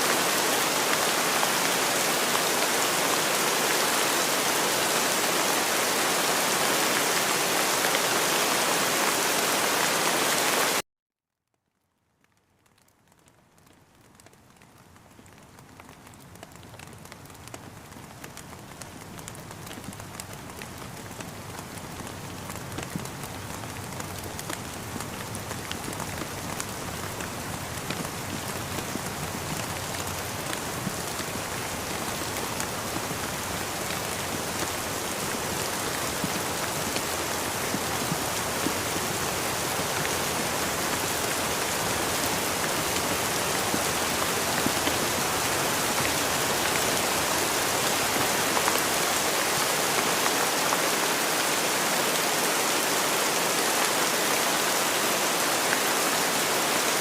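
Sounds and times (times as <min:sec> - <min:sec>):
rain falling: 0:00.0 - 0:10.8, 0:12.0 - 0:57.0.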